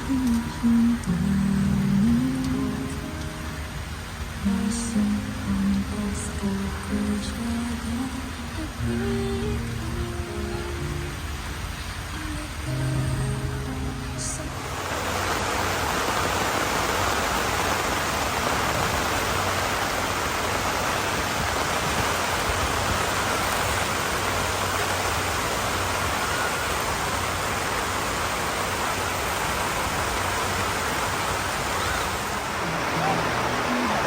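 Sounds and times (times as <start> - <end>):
rushing water: 0.0 - 34.0.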